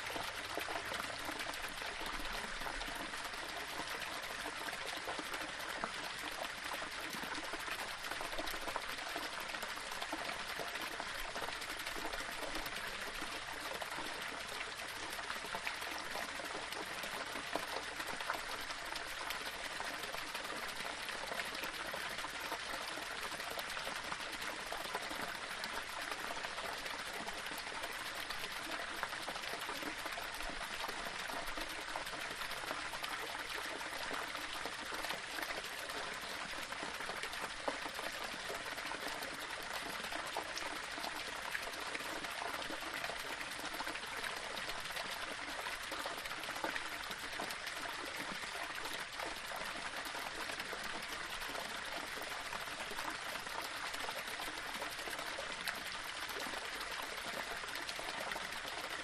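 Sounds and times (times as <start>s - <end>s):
small waterfall over stones: 0.0s - 59.0s.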